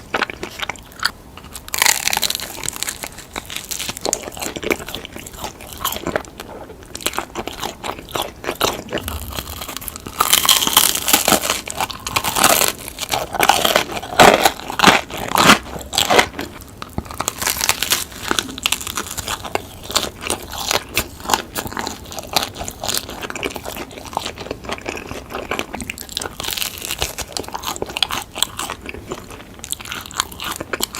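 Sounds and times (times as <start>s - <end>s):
crunchy chewing of pizza: 0.0s - 30.9s.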